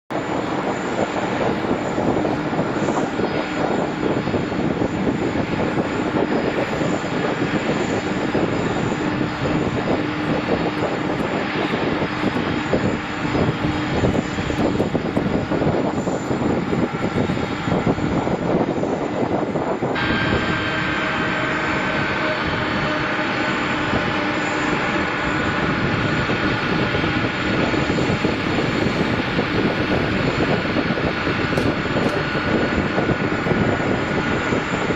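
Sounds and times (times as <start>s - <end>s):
high engine whine falling: 0.1s - 34.9s
jet engines running: 0.1s - 34.9s.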